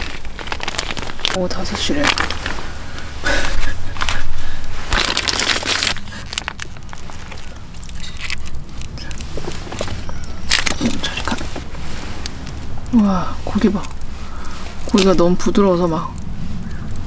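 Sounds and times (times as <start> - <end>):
crinkling rustling handling noise: 0.0 - 17.0
steady low hum: 0.0 - 17.0.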